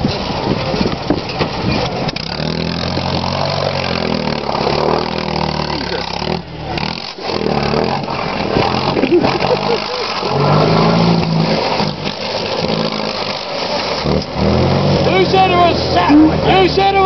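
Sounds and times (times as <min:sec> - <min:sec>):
car engine revving under load: 0:00.0 - 0:17.0.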